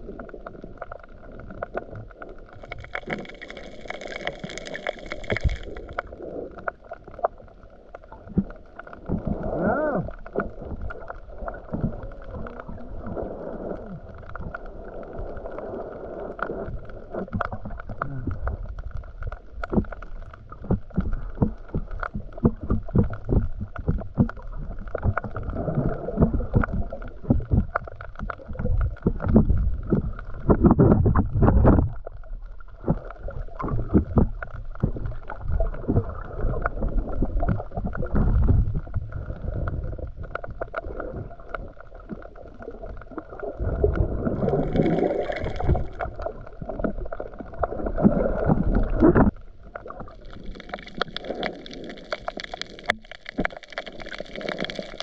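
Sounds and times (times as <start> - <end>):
small clicks and crackles: 0.0 - 55.0
underwater water bubbling: 0.0 - 55.0.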